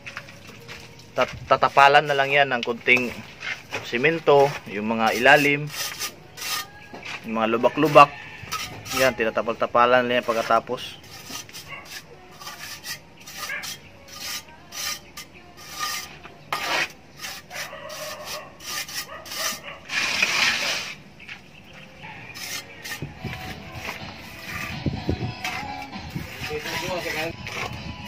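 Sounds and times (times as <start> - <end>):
trowel scraping cement plaster: 3.0 - 21.0, 22.3 - 27.9.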